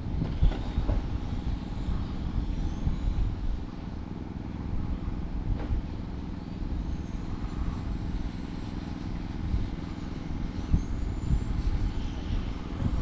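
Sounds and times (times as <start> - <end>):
high motor whines: 0.0 - 13.0.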